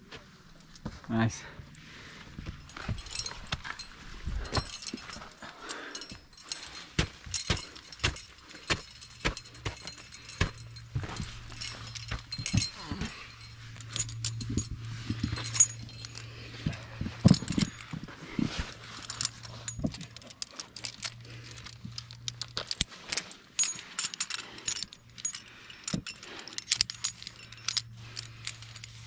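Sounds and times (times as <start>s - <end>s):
carabiners clinking on chain: 2.3s - 29.0s.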